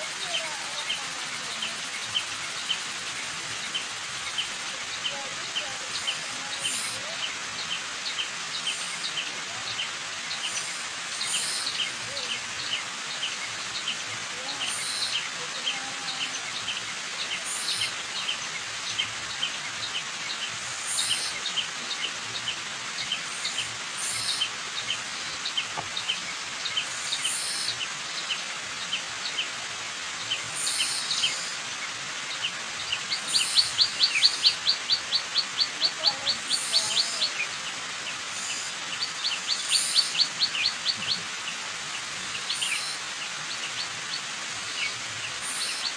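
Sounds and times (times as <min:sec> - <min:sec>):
birds chirping: 0:00.0 - 0:45.9
waterfall rushing: 0:00.0 - 0:45.9.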